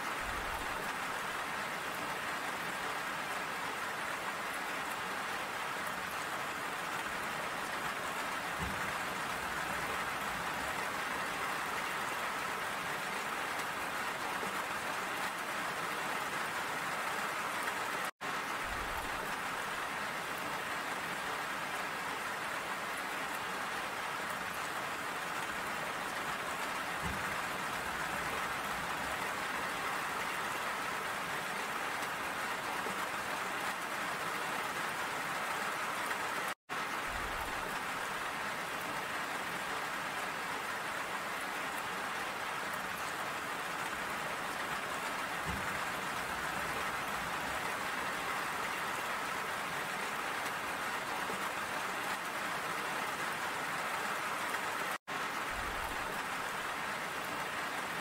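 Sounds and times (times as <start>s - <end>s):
rain on metal railing: 0.0s - 58.0s.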